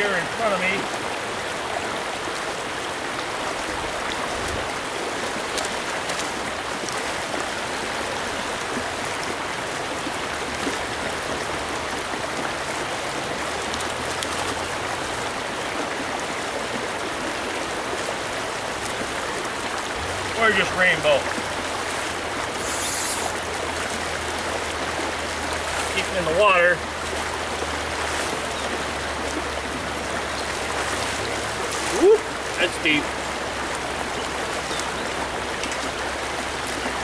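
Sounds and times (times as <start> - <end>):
stream rushing over rocks: 0.0 - 37.0.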